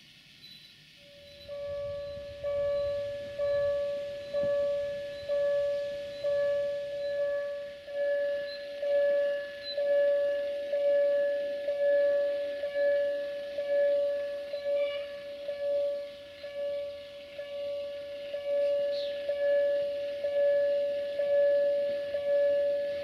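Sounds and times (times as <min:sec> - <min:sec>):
level crossing warning bell: 0:01.0 - 0:23.0.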